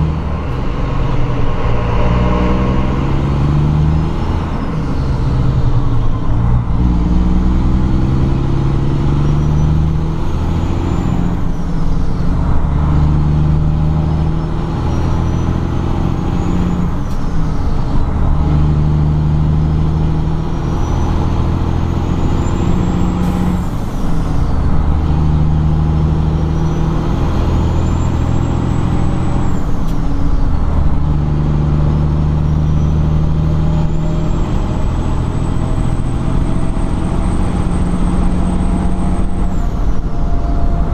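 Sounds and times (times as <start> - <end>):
truck diesel engine shifting gears: 0.0 - 40.9.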